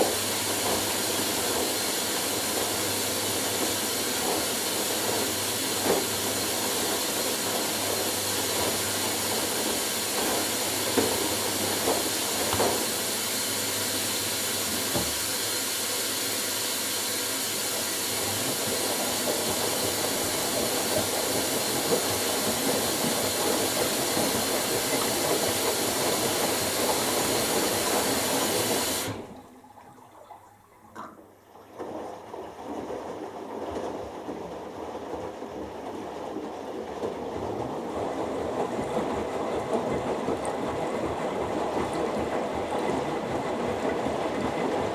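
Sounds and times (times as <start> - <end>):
water hissing into washing machine: 0.0 - 44.9.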